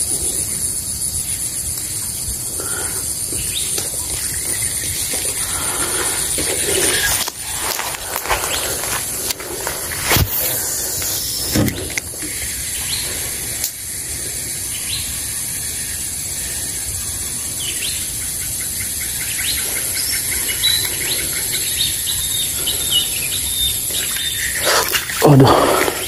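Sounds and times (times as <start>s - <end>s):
birds chirping: 0.0s - 26.0s
high-pitched insect drone: 0.0s - 26.0s.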